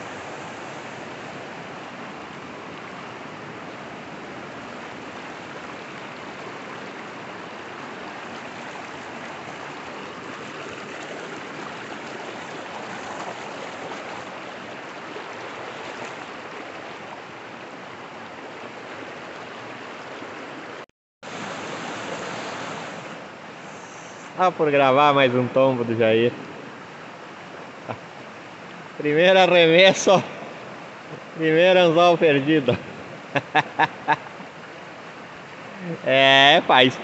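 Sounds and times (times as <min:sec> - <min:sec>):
river water rushing over rocks: 0:00.0 - 0:37.0.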